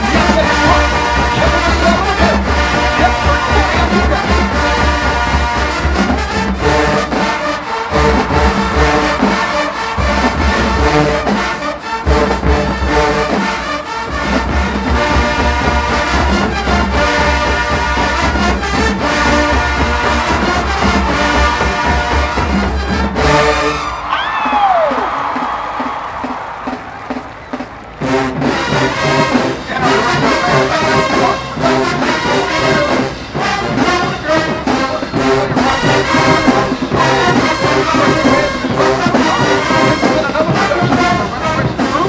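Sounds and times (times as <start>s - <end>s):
heavy drum beat: 0.0s - 23.8s, 24.4s - 42.0s
marching band playing: 0.0s - 42.0s.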